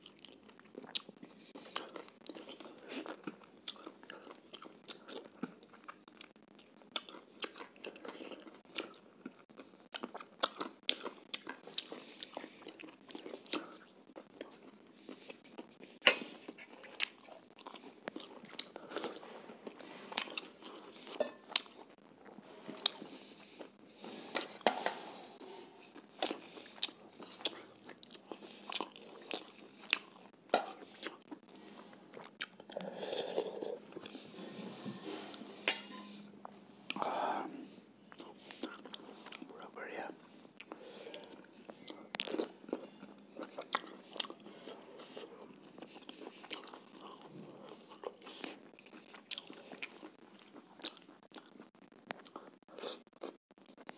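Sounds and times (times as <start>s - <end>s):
man chewing and lip-smacking: 0.0s - 24.7s, 25.8s - 33.2s, 38.1s - 53.9s.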